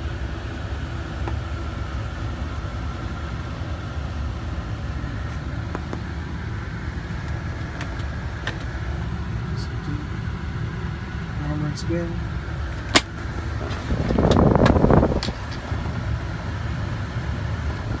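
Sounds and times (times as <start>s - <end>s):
vehicle low rumble: 0.0s - 18.0s.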